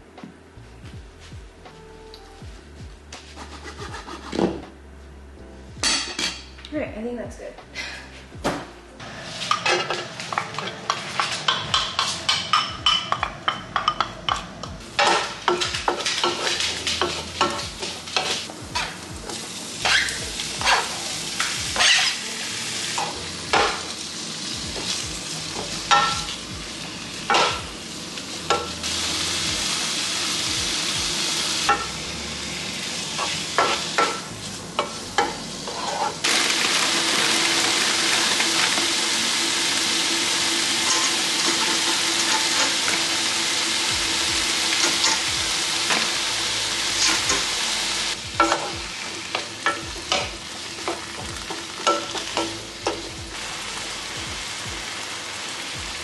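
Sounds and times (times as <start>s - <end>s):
food sizzling in a frying pan: 9.0s - 56.0s.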